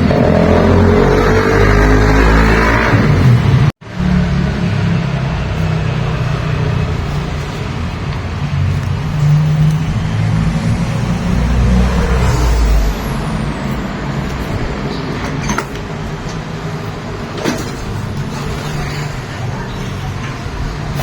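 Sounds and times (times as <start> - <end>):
road noise: 0.0 - 21.0
vehicle engine rumble: 0.0 - 21.0.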